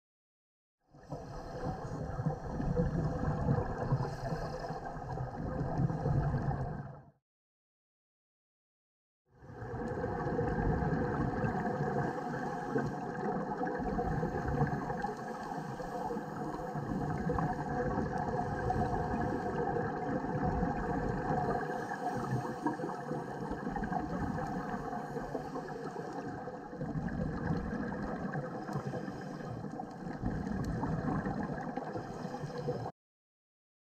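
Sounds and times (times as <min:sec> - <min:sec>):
underwater rushing noise: 0:01.0 - 0:07.1, 0:09.5 - 0:32.9.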